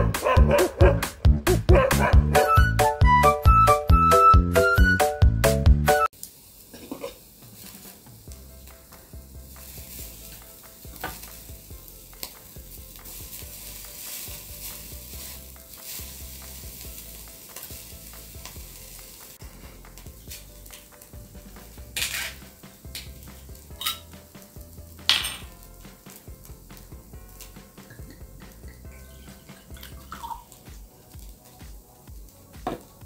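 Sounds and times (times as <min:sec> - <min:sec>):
meat sizzling on charcoal grill: 0:06.1 - 0:33.0.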